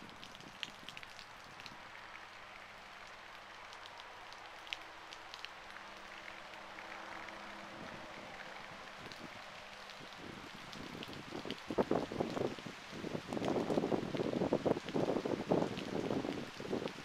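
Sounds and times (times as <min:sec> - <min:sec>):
raindrops ticking near microphone: 0:00.0 - 0:17.0
steady rain hiss: 0:00.0 - 0:17.0.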